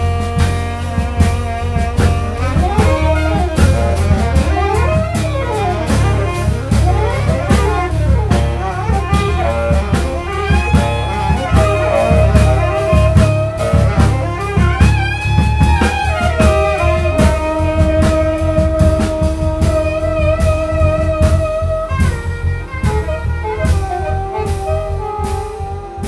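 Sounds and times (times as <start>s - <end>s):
jazz piano bass and drums: 0.0s - 26.0s
saxophone runs: 0.0s - 26.0s.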